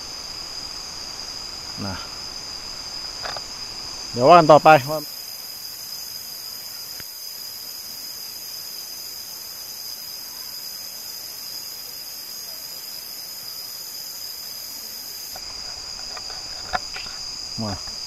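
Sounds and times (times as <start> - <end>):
forest insects buzzing: 0.0 - 18.0.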